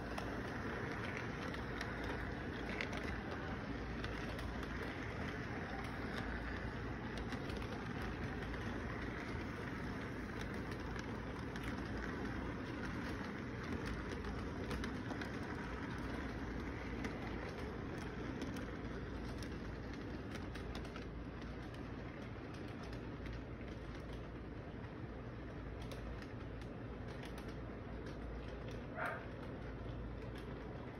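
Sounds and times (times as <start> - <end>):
model train rumbling: 0.0 - 30.9
wheels clicking over rail joints: 0.0 - 30.9.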